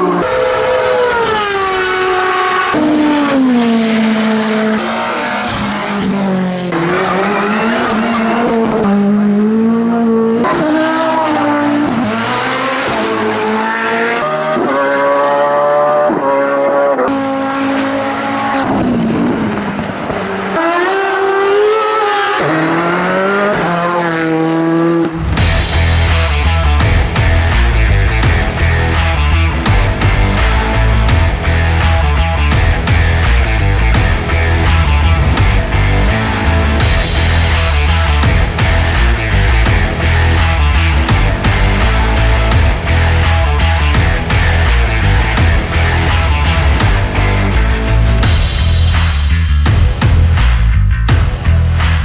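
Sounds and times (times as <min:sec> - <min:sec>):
race car engines at full throttle: 0:00.0 - 0:52.0.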